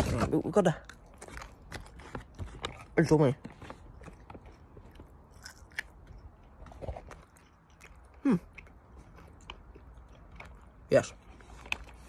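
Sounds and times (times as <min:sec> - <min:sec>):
person chewing sweet: 0:00.8 - 0:12.0.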